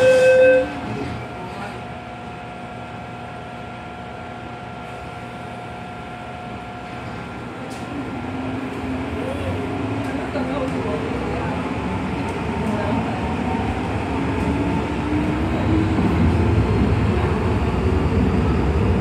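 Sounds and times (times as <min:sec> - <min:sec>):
low train motor tone: 0:00.0 - 0:19.0
train ventilation hum: 0:00.0 - 0:19.0.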